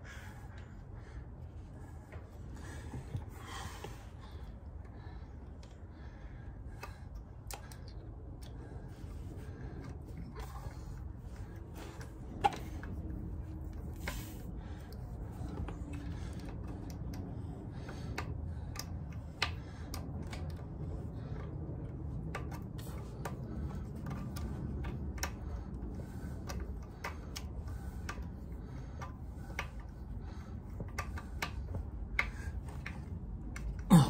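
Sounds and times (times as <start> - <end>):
low steady rumble: 0.0 - 34.0.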